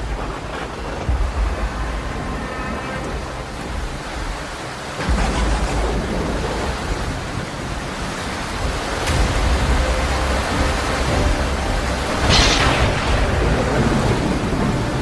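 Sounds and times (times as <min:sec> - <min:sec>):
heavy rain: 0:00.0 - 0:15.0
strong wind gusts: 0:00.0 - 0:15.0.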